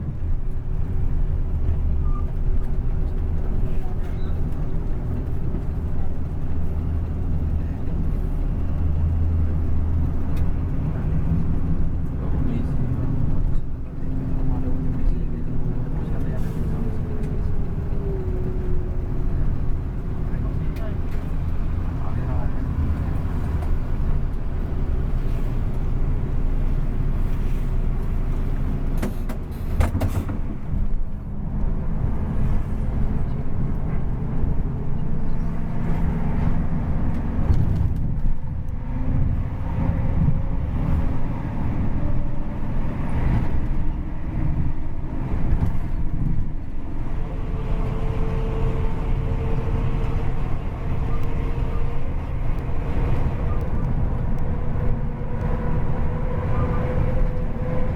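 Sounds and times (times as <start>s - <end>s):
bus engine running: 0.0s - 57.9s
road rumble: 0.0s - 57.9s.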